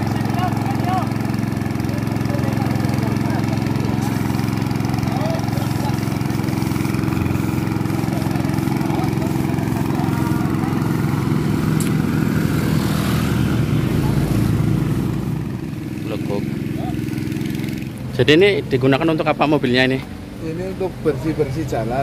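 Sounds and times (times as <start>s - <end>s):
petrol water pump running: 0.0s - 21.1s.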